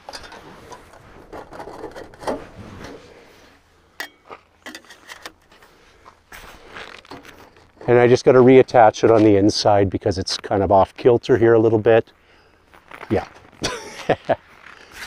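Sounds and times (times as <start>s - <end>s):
rustling and scraping: 0.0s - 10.5s, 12.6s - 15.0s.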